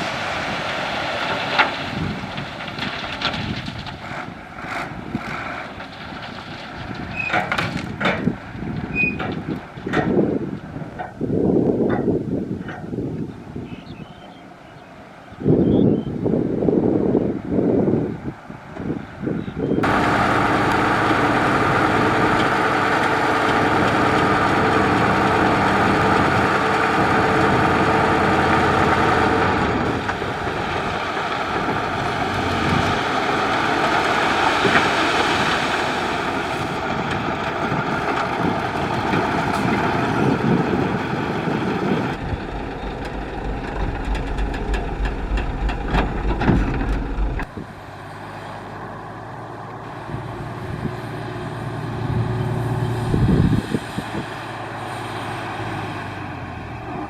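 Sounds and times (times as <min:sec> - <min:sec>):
construction machine diesel engine: 0:00.0 - 0:57.0.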